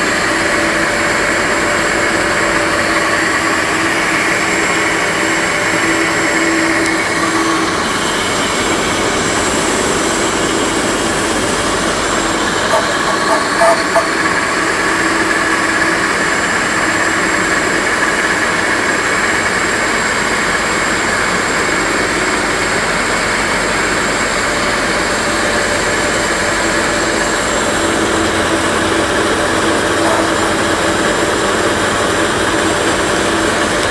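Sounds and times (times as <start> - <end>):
gas turbine running: 0.0 - 33.9.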